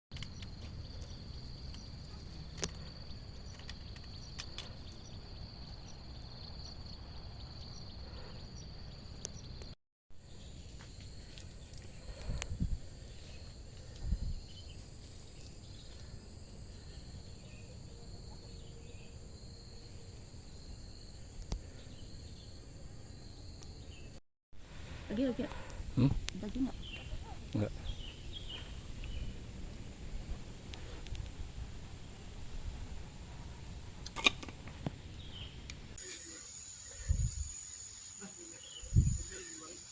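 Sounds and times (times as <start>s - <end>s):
insects droning: 0.2s - 39.9s.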